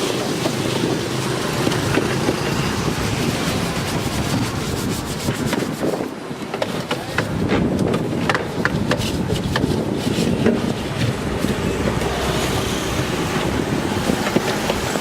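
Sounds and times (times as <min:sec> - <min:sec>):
rubbing and scrubbing: 0:00.0 - 0:15.0.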